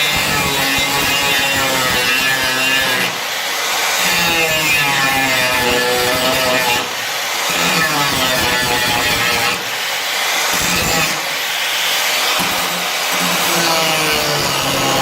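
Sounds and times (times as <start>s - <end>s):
angle grinder grinding metal: 0.0s - 15.0s.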